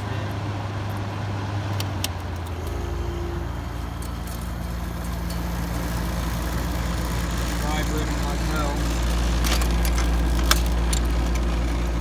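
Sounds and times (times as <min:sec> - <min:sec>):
air conditioner fan running: 0:00.0 - 0:12.0
compressor humming: 0:00.0 - 0:12.0.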